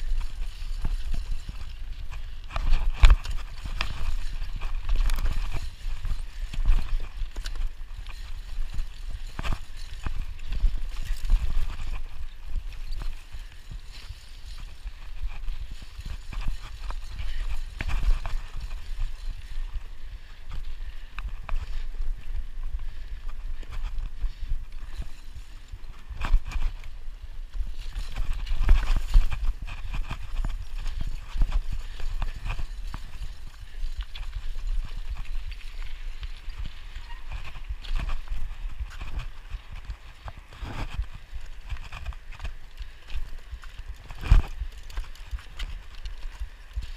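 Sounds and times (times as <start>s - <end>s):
bike knocking and rattling: 0.0s - 46.9s.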